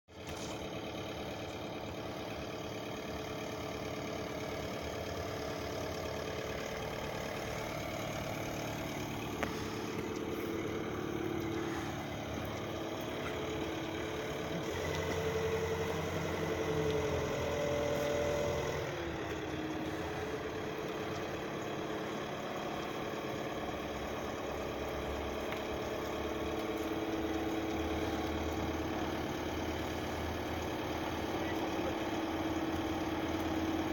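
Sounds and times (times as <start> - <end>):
car wash machine motor hum: 0.1 - 33.9.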